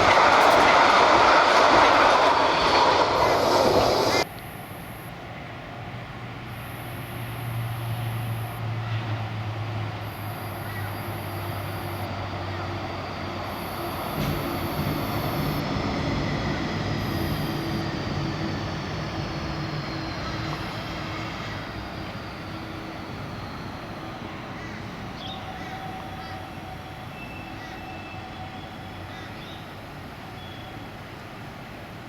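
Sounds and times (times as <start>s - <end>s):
tram passing: 0.0s - 32.0s.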